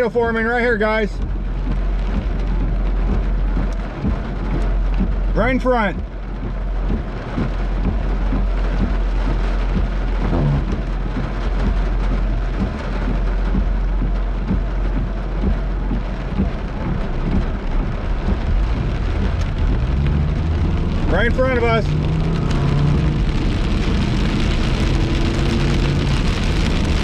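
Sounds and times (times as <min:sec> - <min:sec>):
heavy rain on car roof: 0:00.0 - 0:27.0
steady low rumble: 0:00.0 - 0:27.0.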